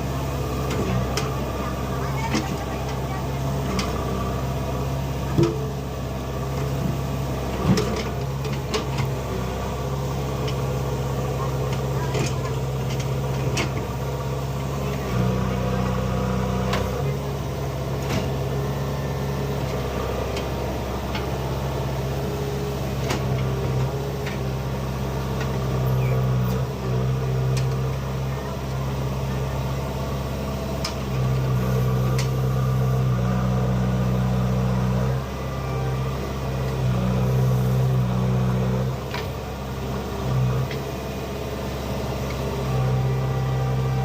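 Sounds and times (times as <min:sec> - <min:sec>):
backhoe diesel engine running: 0:00.0 - 0:44.0.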